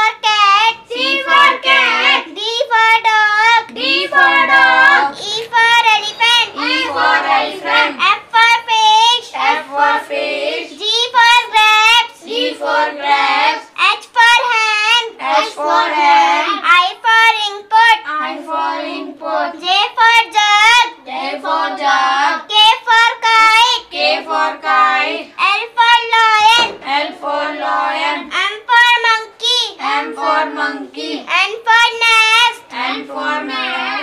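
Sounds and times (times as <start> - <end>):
children chanting in sing-song: 0.0 - 34.0.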